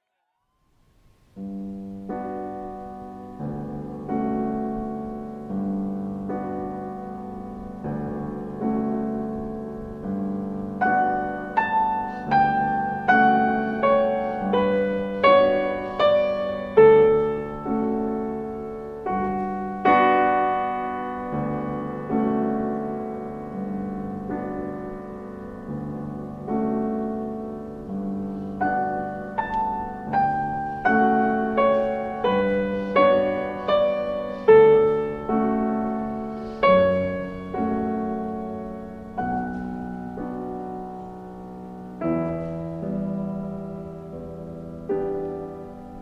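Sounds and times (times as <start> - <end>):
slow solo piano: 0.7 - 46.0.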